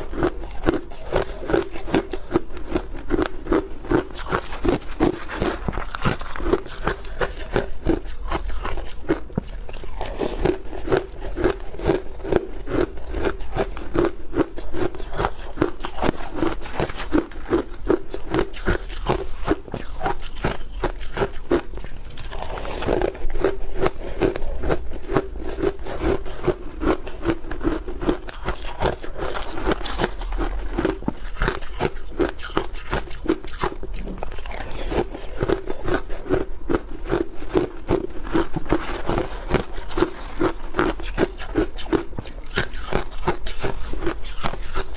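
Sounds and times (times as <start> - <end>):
person chewing ice crunching: 0.0 - 44.9.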